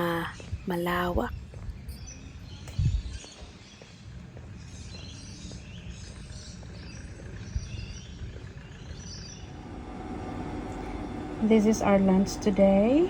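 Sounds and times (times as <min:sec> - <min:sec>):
birds chirping: 0:00.0 - 0:13.0
low steady background rumble: 0:00.0 - 0:13.0.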